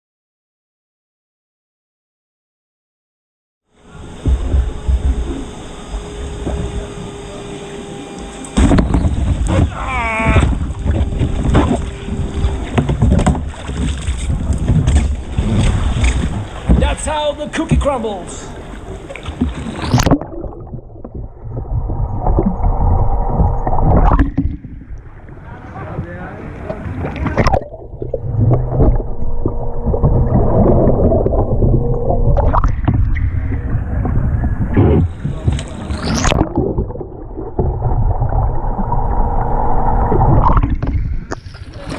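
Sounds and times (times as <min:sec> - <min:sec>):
faint steady hum: 0:03.7 - 0:41.9
paddle splashing: 0:03.8 - 0:41.9
underwater gurgling and bubbling: 0:03.8 - 0:41.9
water sloshing: 0:03.8 - 0:41.9.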